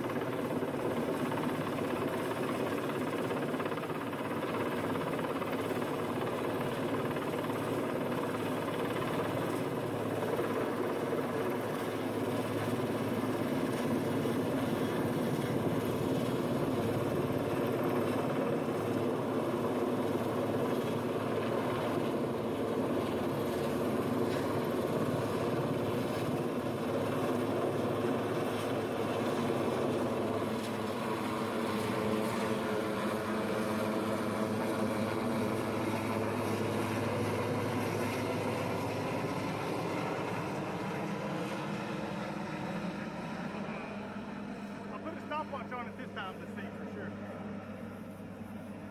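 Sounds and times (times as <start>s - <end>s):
helicopter rotor drone: 0.0s - 48.9s.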